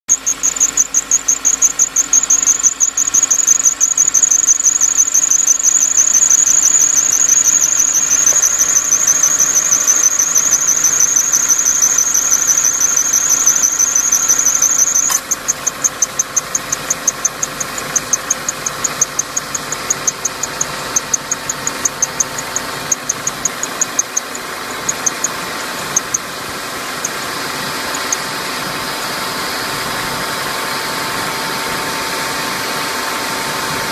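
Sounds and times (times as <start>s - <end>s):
car engine idling: 0.1s - 33.9s
high-pitched pulsing squeal: 0.1s - 33.9s.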